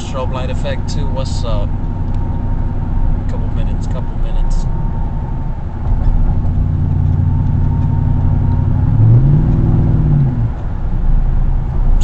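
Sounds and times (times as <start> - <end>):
truck engine exhaust drone: 0.0 - 12.0.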